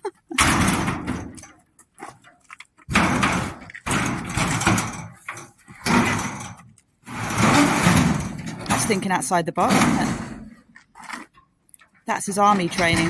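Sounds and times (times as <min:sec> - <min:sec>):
sheet metal scraping and rattling: 0:00.3 - 0:11.6, 0:12.2 - 0:13.0.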